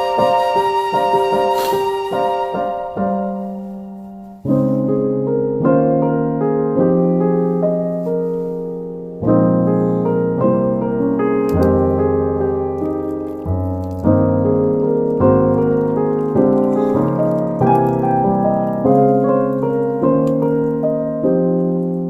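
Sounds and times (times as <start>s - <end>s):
electric piano soft chords: 0.0s - 22.0s.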